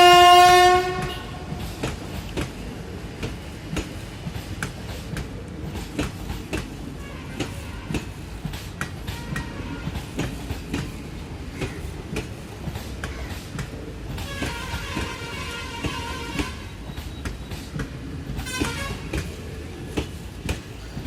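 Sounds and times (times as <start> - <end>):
train rumble: 0.0 - 21.0
train wheels clattering over rail joints: 0.1 - 21.0.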